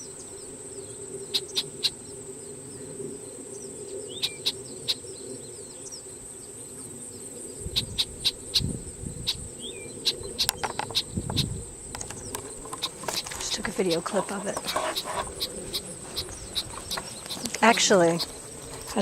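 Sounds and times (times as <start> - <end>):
faint bird chirps: 0.0 - 19.0
insects droning: 0.0 - 19.0.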